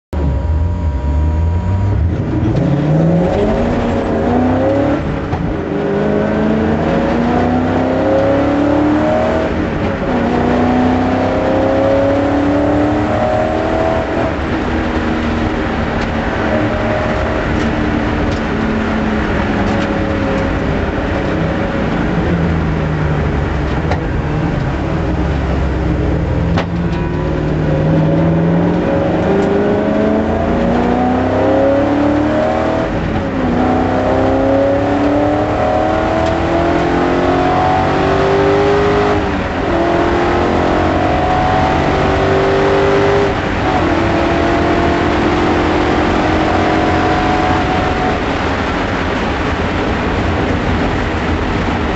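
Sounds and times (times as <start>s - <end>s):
race car engine accelerating: 0.1s - 51.9s.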